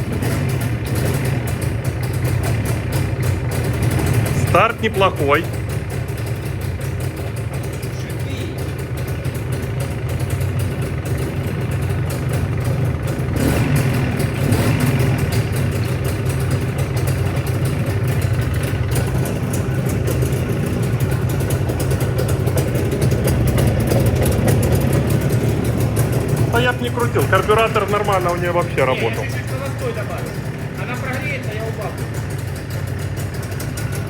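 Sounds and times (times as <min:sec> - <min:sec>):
two-stroke engine idling: 0:00.0 - 0:34.0.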